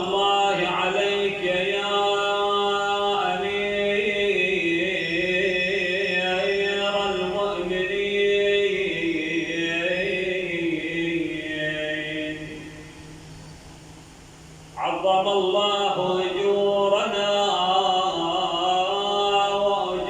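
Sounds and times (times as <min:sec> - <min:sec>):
man chanting: 0:00.0 - 0:12.9, 0:14.8 - 0:20.0.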